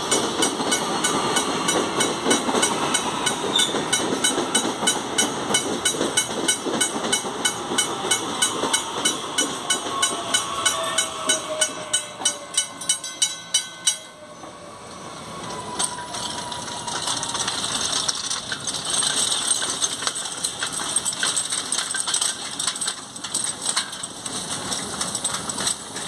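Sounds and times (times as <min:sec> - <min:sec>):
train running on rails: 0:00.0 - 0:26.0.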